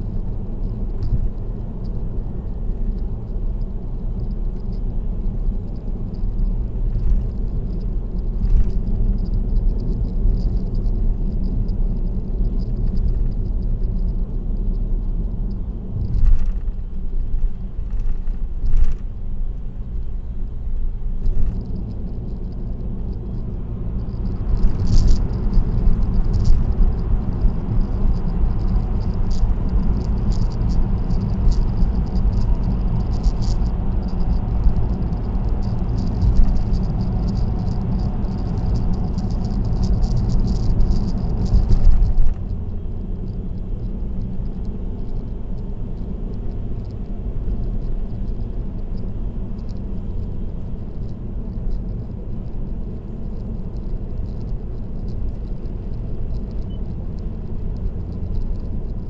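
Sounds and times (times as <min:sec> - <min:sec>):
tyre and road noise inside car: 0:00.0 - 0:59.0.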